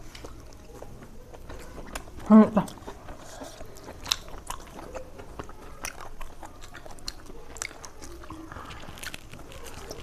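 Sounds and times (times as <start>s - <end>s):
chewing and biting food: 0.0s - 10.0s.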